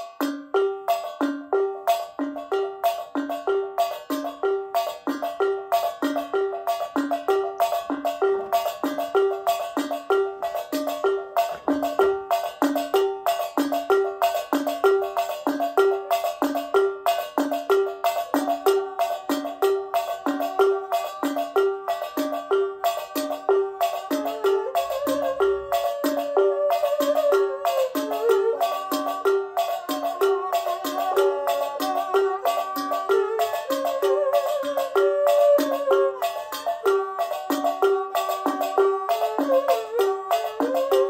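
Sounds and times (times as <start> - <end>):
tuned percussion ostinato: 0.0 - 41.0.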